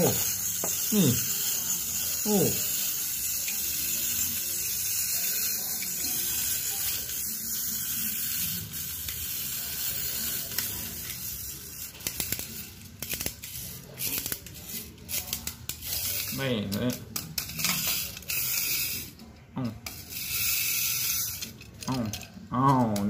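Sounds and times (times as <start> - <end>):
clockwork whirring: 0.0 - 23.0.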